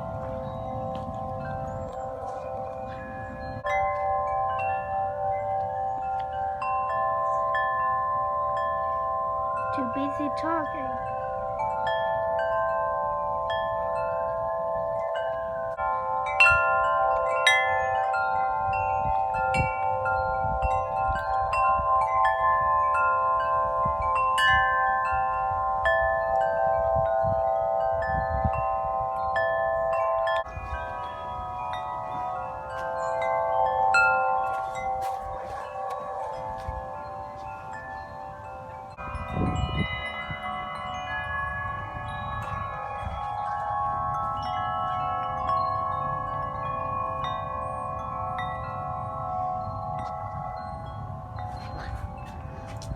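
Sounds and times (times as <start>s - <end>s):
gusty wind: 0.0s - 8.0s, 16.3s - 52.9s
large wind chimes ringing: 0.0s - 52.9s.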